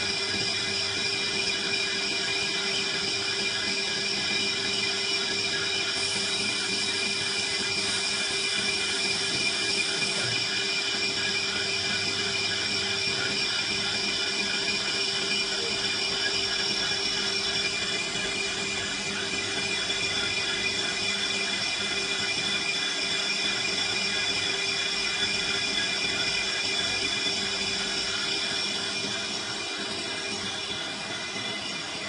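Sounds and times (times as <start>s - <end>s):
high-pitched machine whine: 0.0s - 32.0s
lathe machining metal pipe: 0.0s - 32.0s.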